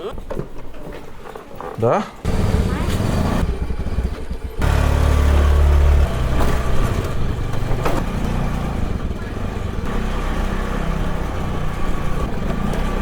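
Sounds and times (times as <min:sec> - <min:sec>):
vehicle engine rumbling: 0:02.2 - 0:13.0.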